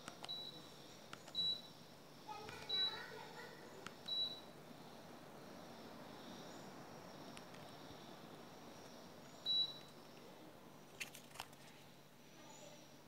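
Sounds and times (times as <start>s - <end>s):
air conditioner fan hissing: 0.0s - 13.0s.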